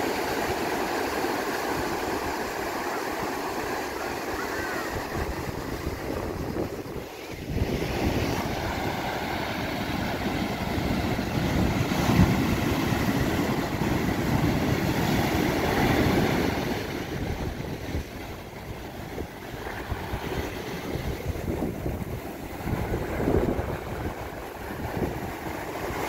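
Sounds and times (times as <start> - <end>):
surf breaking on rocks: 0.0 - 26.0
wind rumble on microphone: 4.5 - 26.0.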